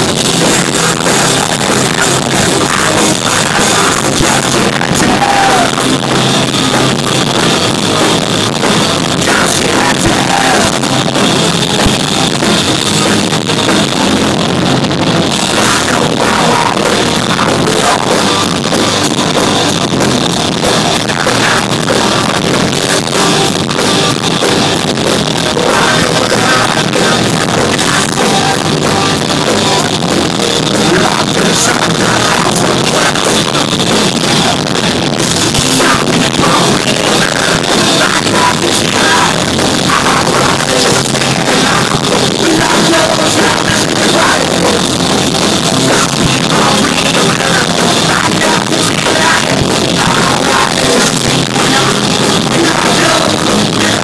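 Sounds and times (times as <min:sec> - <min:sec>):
distorted electric guitars: 0:00.0 - 0:54.0
drum kit pounding: 0:00.0 - 0:54.0.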